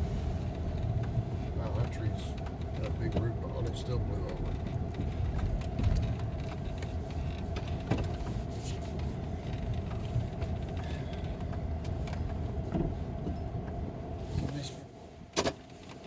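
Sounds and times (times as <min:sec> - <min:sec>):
constant hum: 0:00.0 - 0:16.0
vehicle engine and road rumble: 0:00.0 - 0:16.0
light clicks and rattles: 0:00.4 - 0:13.8.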